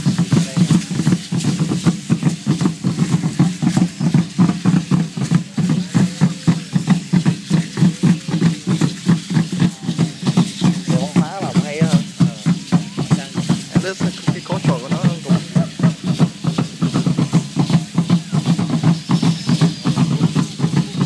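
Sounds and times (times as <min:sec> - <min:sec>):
drum beating fast: 0:00.0 - 0:21.0.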